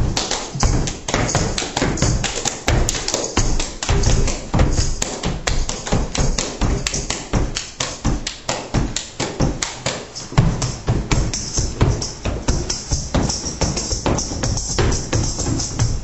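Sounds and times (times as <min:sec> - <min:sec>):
feet stamping on floor: 0:00.0 - 0:16.0
rubber boots slapping: 0:00.0 - 0:16.0.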